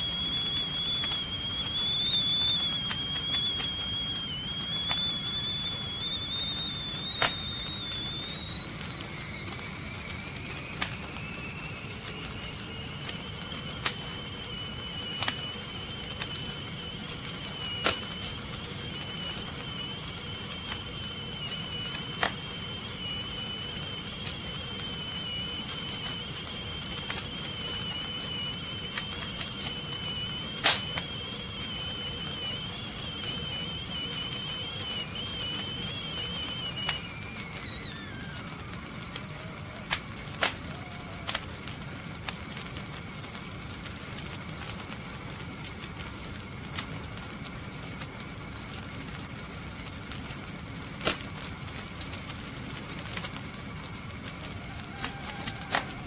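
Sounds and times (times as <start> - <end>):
gas burner flame rushing: 0.0 - 56.0
sharp crackles: 0.0 - 56.0
tea kettle whistling: 0.0 - 56.0.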